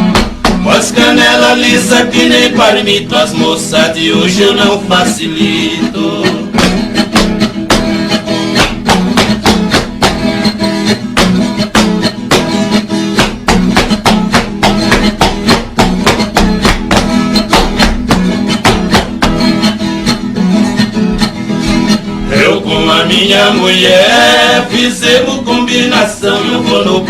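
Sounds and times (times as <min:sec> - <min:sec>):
acoustic guitars strumming: 0:00.0 - 0:27.0.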